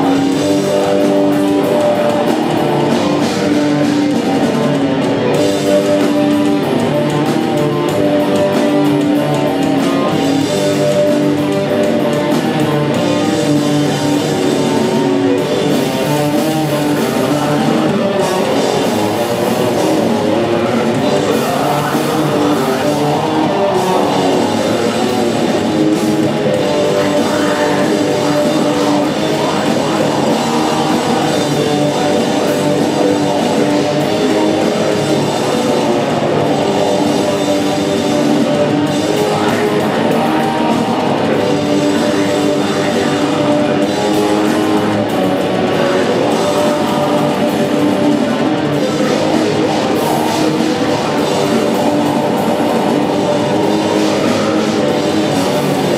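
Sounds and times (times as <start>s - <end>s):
bass guitar: 0.0s - 55.9s
drum kit: 0.0s - 55.9s
electric guitars: 0.0s - 55.9s
person singing: 0.0s - 55.9s.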